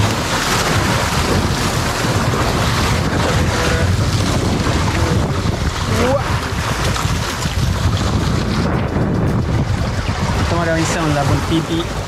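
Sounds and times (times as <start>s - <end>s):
sea surf: 0.0s - 12.0s
wind on microphone: 0.0s - 12.0s.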